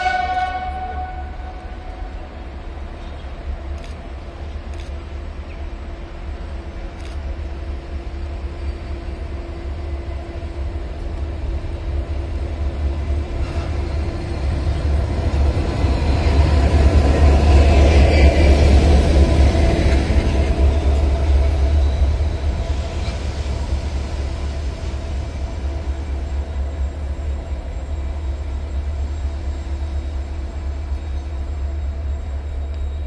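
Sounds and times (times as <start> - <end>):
diesel locomotive engine rumbling: 0.0 - 33.0
wheel and rail hiss: 1.5 - 33.0.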